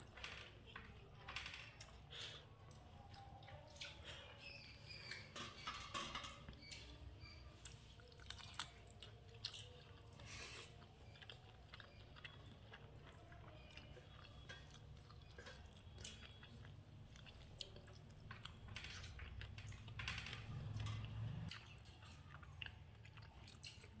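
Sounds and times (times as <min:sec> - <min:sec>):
person chewing food: 0:01.8 - 0:05.3, 0:06.4 - 0:24.0.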